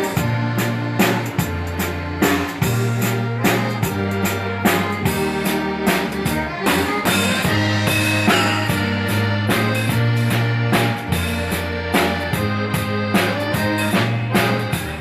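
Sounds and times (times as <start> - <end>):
dance band playing live: 0.0 - 15.0
drum kit steady beat: 0.0 - 15.0.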